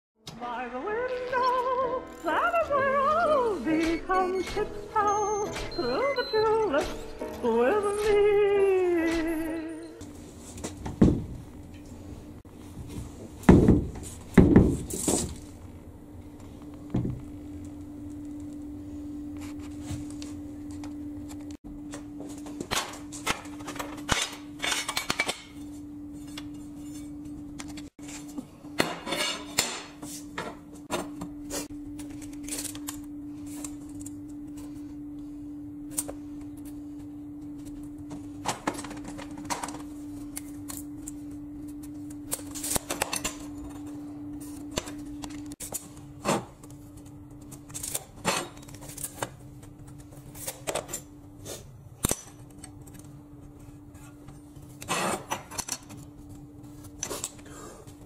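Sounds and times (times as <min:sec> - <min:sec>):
workshop equipment hum: 0:00.2 - 0:58.0.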